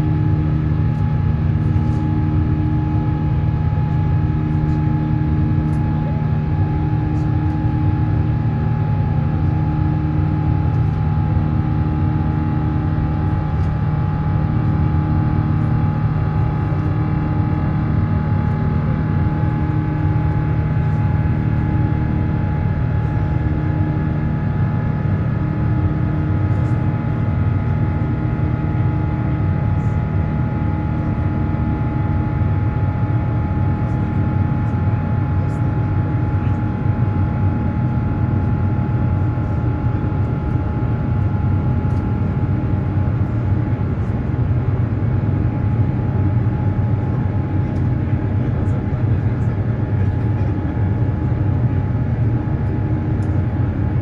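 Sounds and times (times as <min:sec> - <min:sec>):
jet engines droning in cabin: 0:00.0 - 0:54.0.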